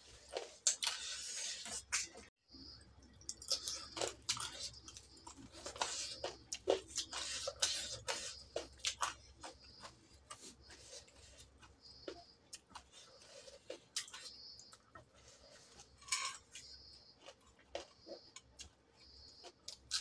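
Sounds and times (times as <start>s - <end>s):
chewing and lip-smacking: 0.3s - 20.0s.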